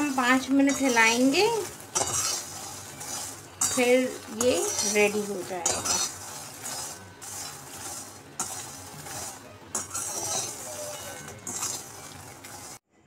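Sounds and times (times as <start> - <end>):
seeds scraping in a metal pan: 0.0 - 12.8.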